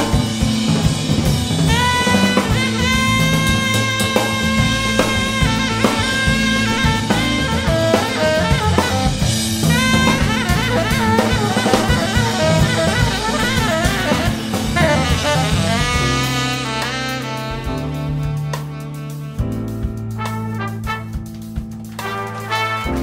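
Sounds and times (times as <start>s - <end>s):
drum kit beat: 0.0s - 23.0s
saxophone and brass melody: 0.0s - 23.0s.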